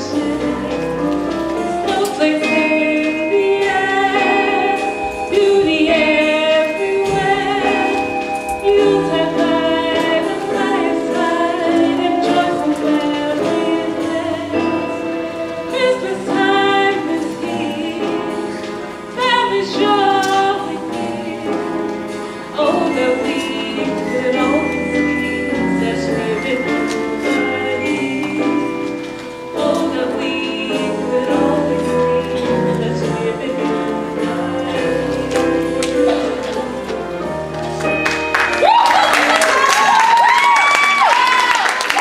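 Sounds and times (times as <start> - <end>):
choir singing in harmony: 1.7 - 21.8, 22.5 - 37.5.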